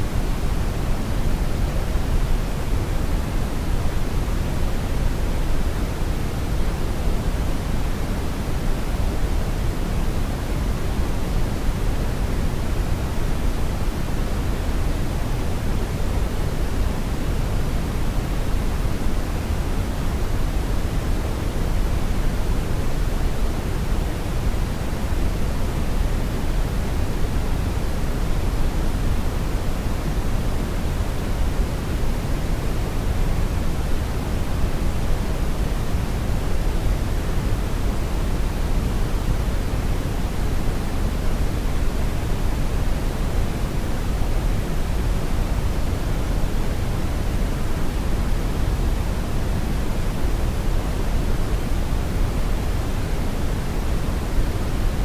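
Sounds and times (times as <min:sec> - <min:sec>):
brown noise rumble: 0:00.0 - 0:55.0.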